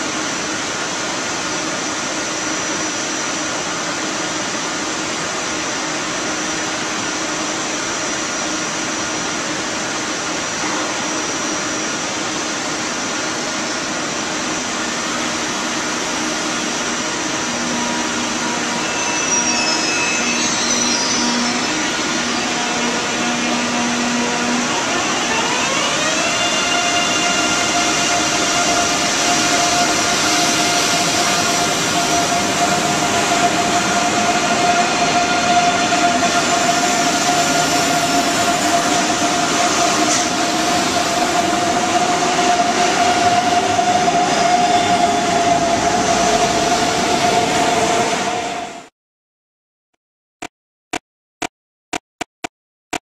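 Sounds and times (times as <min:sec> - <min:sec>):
rising electric whine of train: 0:00.0 - 0:48.9.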